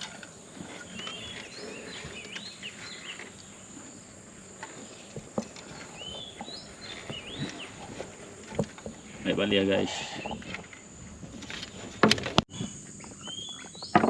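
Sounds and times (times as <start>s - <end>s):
bird calling: 0.0s - 14.0s
high insect drone: 0.0s - 14.0s.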